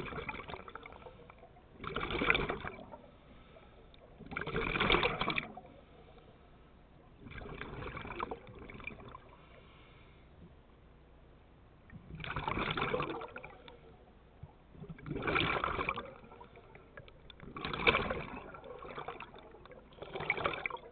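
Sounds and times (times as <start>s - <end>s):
regulator bubbling underwater: 0.0s - 9.4s, 11.9s - 20.9s.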